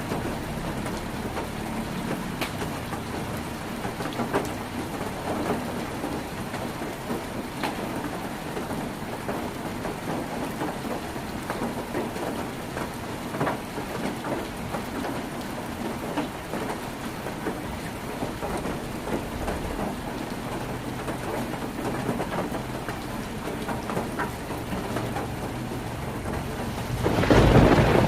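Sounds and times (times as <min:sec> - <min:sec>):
heavy rain on a tin roof: 0:00.0 - 0:28.0.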